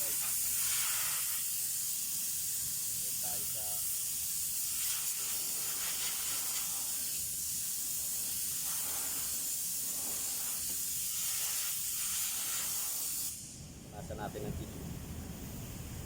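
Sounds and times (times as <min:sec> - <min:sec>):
aerosol can spraying hiss: 0:00.0 - 0:13.6.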